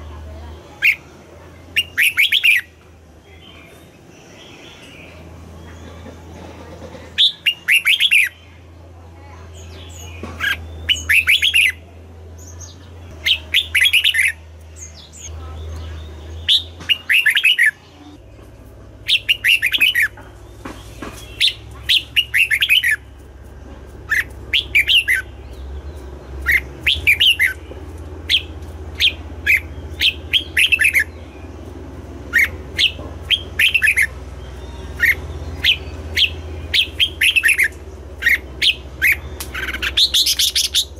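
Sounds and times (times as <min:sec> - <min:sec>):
steady low hum: 0:00.0 - 0:40.9
bird chirping: 0:00.8 - 0:08.7, 0:09.4 - 0:40.9.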